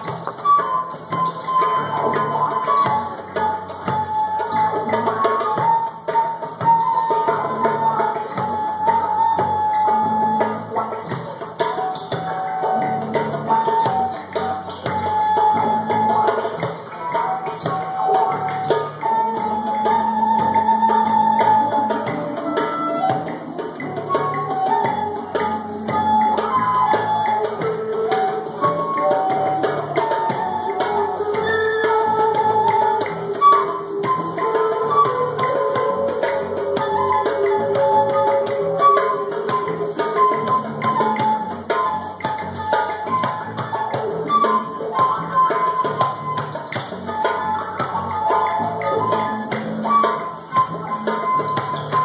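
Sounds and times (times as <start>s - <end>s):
flute playing slow melody: 0.0s - 52.0s
hand drum patting: 0.0s - 52.0s.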